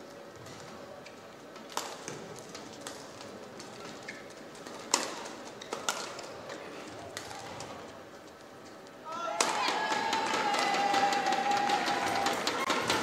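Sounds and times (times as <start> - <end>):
low arena background: 0.0 - 13.0.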